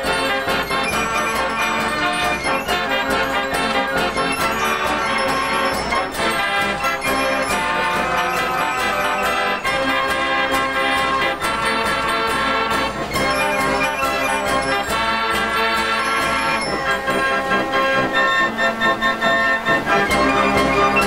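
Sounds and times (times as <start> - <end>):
fairground organ playing: 0.0 - 21.0.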